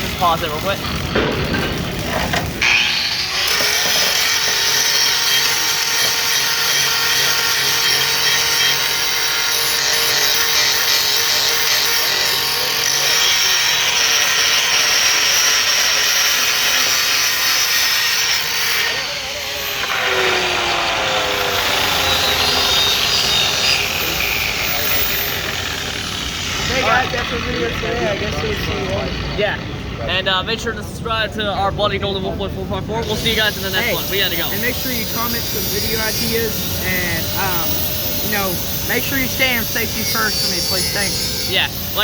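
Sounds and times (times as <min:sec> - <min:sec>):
electric grinder grinding steel: 0:00.0 - 0:29.4, 0:33.0 - 0:42.0.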